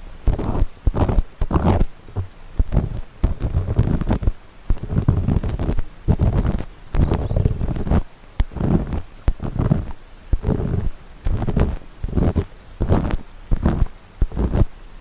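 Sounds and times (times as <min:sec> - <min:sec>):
ear pick scraping microphone: 0:00.0 - 0:14.8
small clicks: 0:00.2 - 0:14.7.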